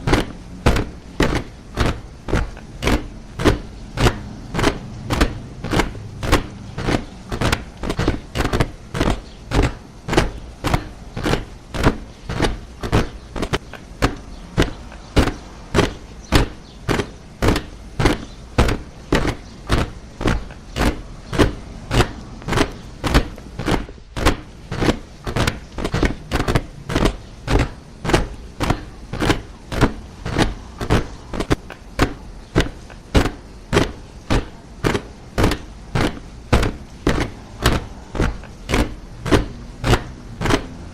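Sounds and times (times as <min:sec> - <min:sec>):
soldiers marching in step: 0:00.0 - 0:40.9.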